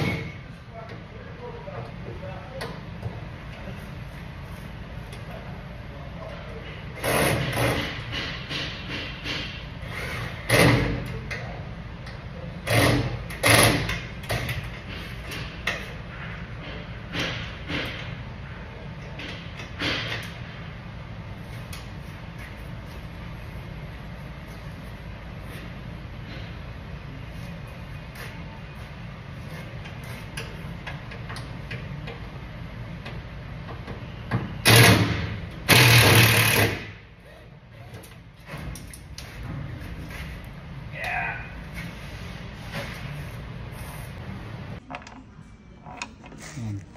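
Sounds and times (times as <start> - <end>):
shop hum: 0.0 - 46.9.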